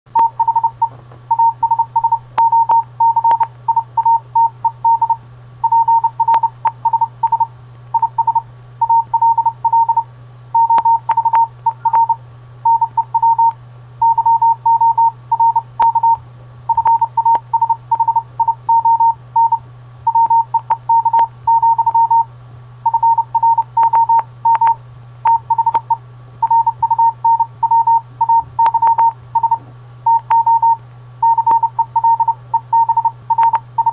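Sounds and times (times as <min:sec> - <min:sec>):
morse code beeps: 0:00.1 - 0:22.3, 0:22.9 - 0:33.9.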